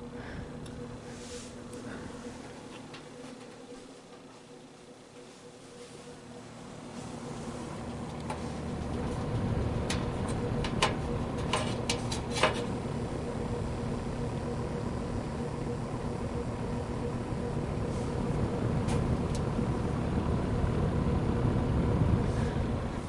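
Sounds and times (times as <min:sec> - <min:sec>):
box fan running: 0:00.0 - 0:23.0.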